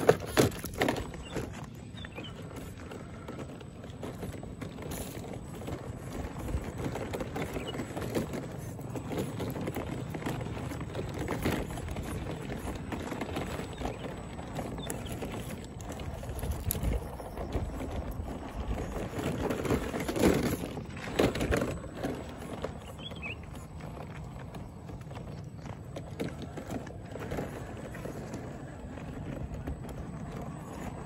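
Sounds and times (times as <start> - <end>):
rocks knocking and clattering: 0.0 - 31.0
tyres crunching on soil: 0.0 - 31.0.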